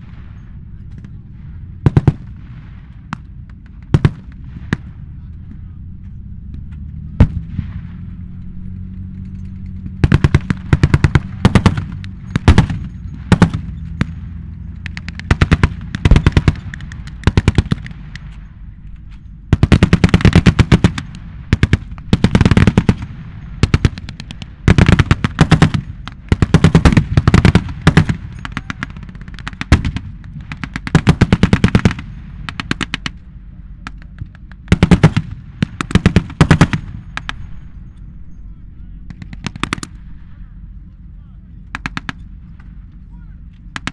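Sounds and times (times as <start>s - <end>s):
tank engines droning: 0.0s - 43.9s.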